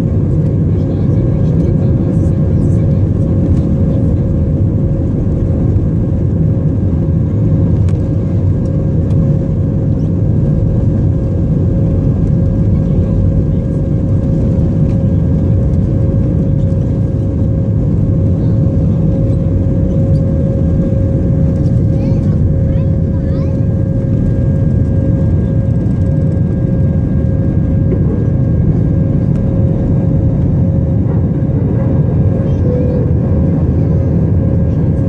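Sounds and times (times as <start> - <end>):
aircraft cabin engine rumble: 0.0 - 35.0
constant engine whine: 0.0 - 35.0.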